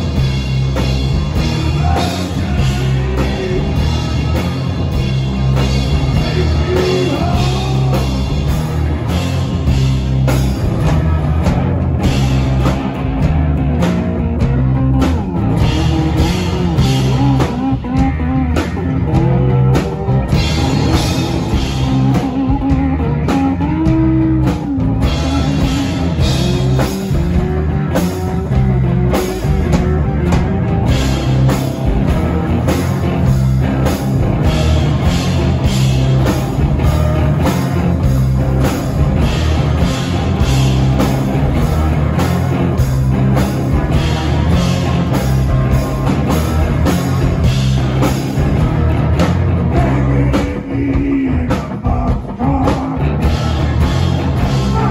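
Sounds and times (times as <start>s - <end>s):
bass guitar: 0.0s - 54.9s
drum kit: 0.0s - 54.9s
electric guitars: 0.0s - 54.9s.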